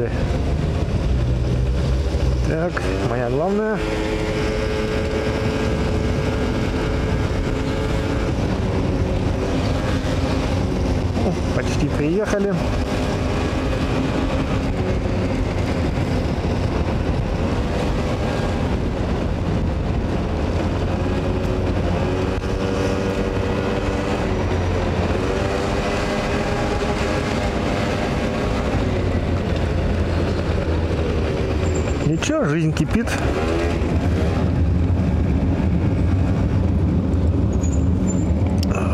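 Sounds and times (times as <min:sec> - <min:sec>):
road and wind noise: 0:00.0 - 0:38.9.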